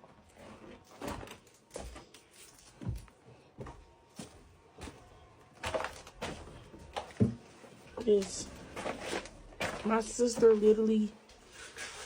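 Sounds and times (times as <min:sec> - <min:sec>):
footsteps on a floor: 0:00.3 - 0:11.5.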